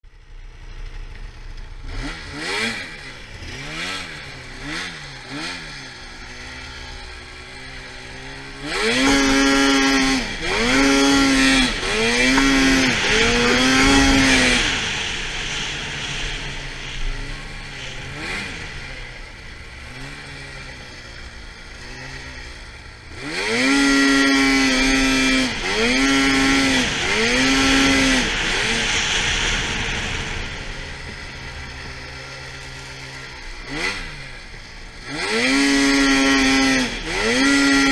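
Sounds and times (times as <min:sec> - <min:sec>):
snowmobile engine revving: 0:00.8 - 0:37.9.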